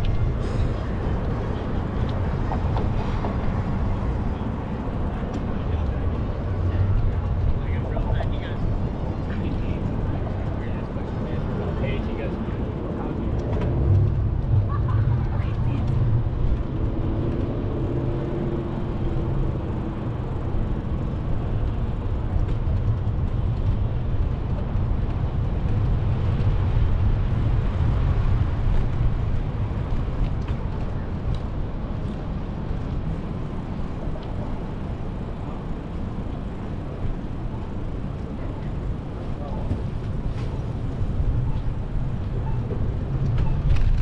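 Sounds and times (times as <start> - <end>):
city traffic passing: 0.0 - 44.0
wind rushing over microphone: 8.6 - 44.0.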